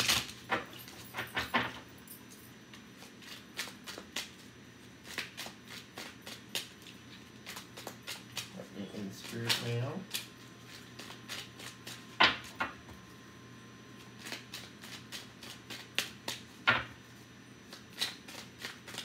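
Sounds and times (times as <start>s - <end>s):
cards being shuffled: 0.0s - 1.0s, 2.8s - 13.1s, 14.0s - 16.8s, 17.6s - 19.0s.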